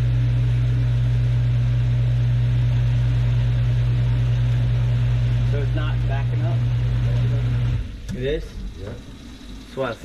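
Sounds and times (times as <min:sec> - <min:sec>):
garbage disposal motor humming: 0:00.0 - 0:10.0.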